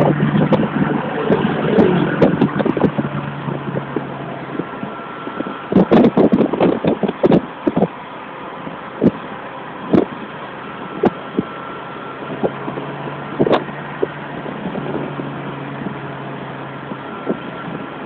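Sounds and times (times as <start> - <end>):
low engine hum: 0.0 - 18.0
wind and road noise: 0.0 - 18.0.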